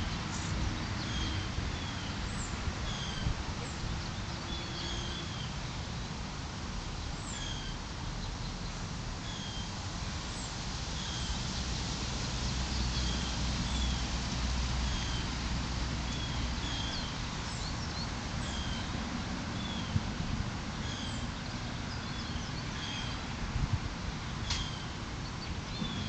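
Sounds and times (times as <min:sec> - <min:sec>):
garden birds chirping: 0:00.0 - 0:06.3, 0:07.1 - 0:26.0.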